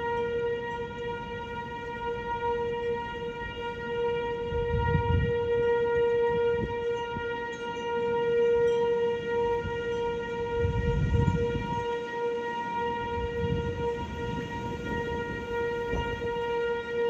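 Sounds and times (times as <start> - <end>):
warning siren steady tone: 0.0 - 17.0
wind buffeting microphone: 0.4 - 7.4, 9.2 - 12.0, 12.8 - 17.0.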